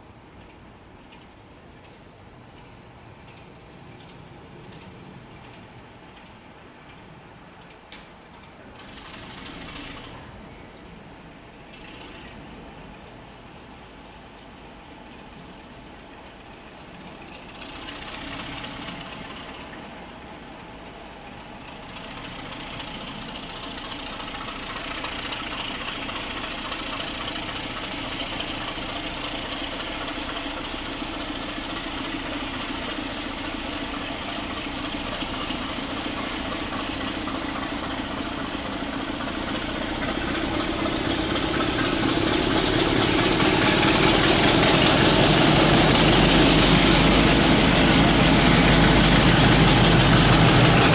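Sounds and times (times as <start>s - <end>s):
diesel train engine running: 0.0s - 50.9s.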